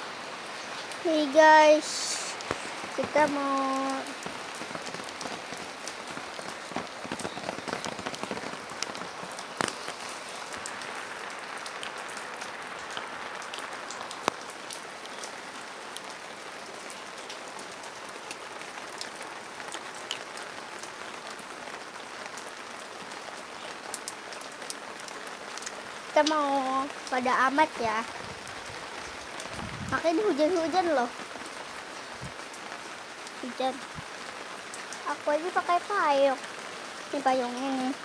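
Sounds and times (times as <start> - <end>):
rain drops pattering: 0.0 - 38.0.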